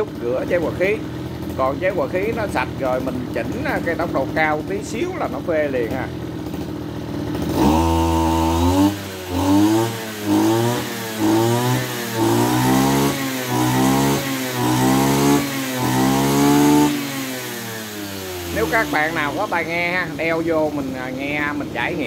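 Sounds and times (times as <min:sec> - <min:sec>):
brush cutter engine revving: 0:00.0 - 0:22.0.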